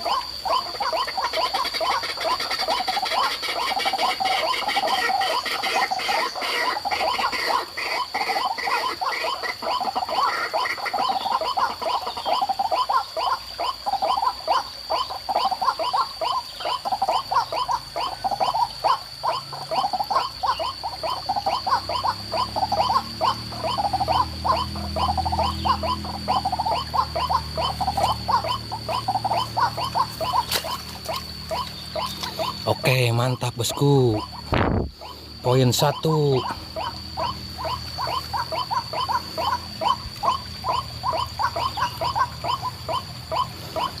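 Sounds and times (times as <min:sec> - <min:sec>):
waterhen calling: 0:00.0 - 0:44.0.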